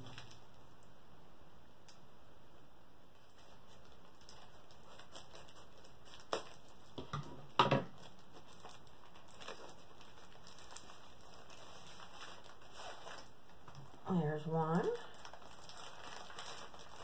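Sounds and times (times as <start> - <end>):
plastic mailer rustling and crinkling: 0.0 - 0.6, 3.1 - 17.0
sharp plastic crackles: 0.0 - 0.9, 3.1 - 17.0.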